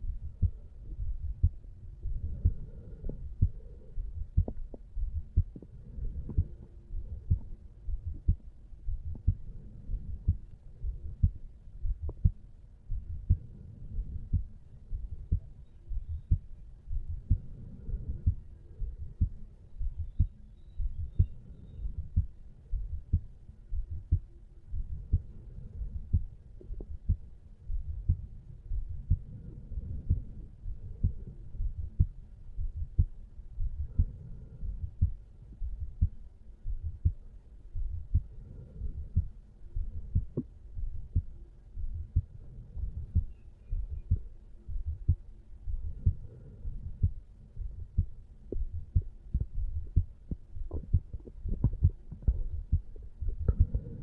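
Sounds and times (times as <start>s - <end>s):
heartbeat lub-dub: 0.0s - 54.0s.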